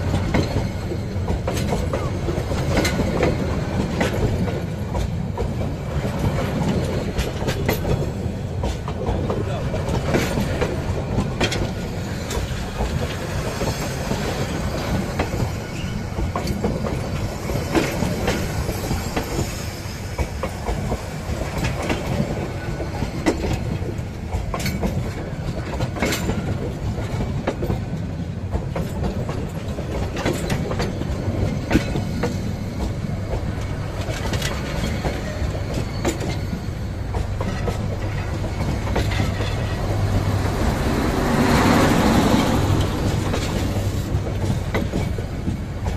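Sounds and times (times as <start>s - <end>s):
train wheels rumbling on rails: 0.0s - 45.9s
wheels clicking and knocking: 0.1s - 45.9s.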